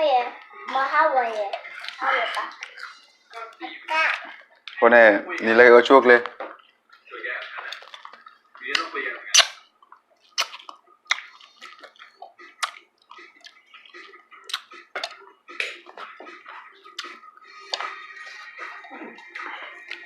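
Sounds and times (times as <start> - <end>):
person eating: 1.3 - 5.6, 6.5 - 20.0.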